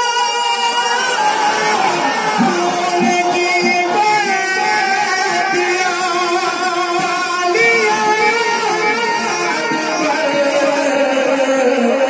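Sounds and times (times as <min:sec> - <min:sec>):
man singing through pa system: 0:00.0 - 0:12.0.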